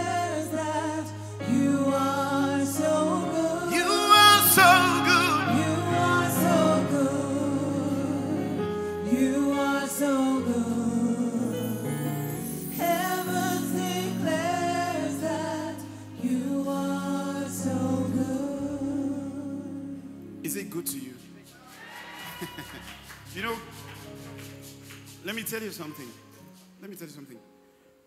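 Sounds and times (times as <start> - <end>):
gospel singing: 0.0 - 26.6.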